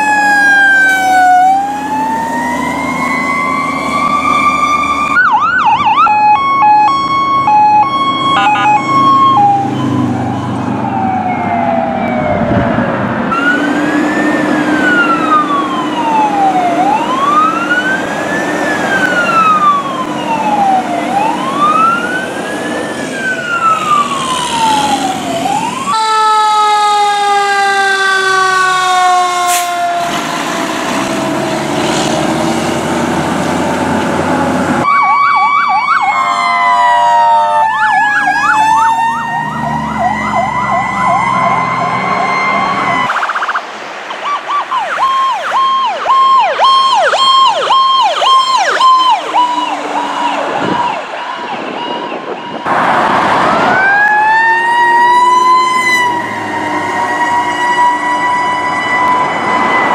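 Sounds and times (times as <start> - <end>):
fast siren yelp: 0.0 - 30.4, 34.8 - 59.9
fire engine siren wailing: 0.0 - 59.9
siren sliding down in pitch: 0.0 - 59.9.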